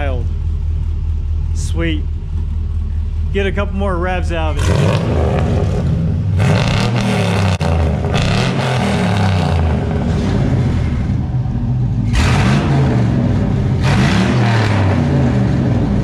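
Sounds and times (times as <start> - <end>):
pickup engine revving: 0.0 - 16.0.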